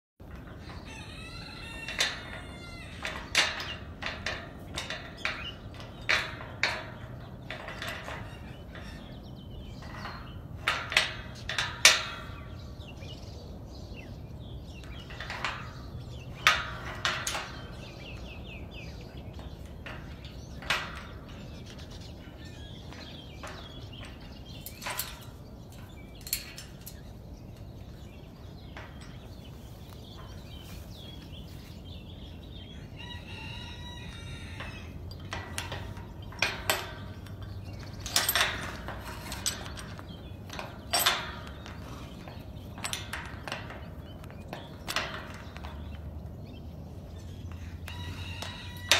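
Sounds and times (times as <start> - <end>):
metal gate latch clinking: 0.2 - 48.9.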